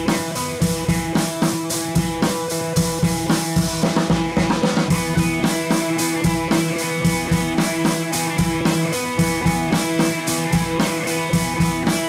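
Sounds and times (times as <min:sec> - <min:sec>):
drum kit steady beat: 0:00.0 - 0:12.0.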